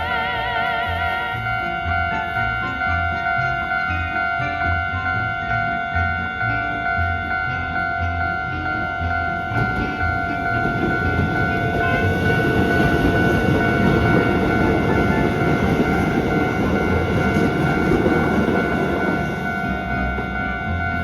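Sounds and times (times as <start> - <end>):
crossing warning bell ringing: 0.0 - 21.0
train wheels rumbling on rails: 0.0 - 21.0.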